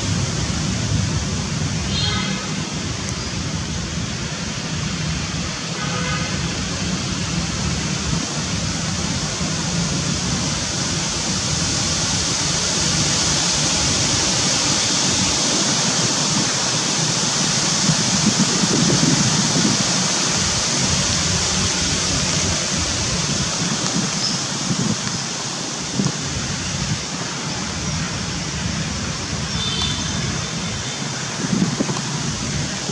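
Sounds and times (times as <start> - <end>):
steady rushing noise: 0.0 - 32.9.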